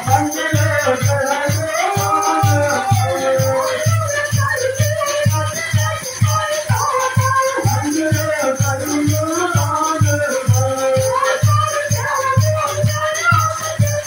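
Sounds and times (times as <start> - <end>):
devotional song melody: 0.0 - 14.0
hand drum beat: 0.0 - 14.0
rattling hand percussion: 0.0 - 14.0.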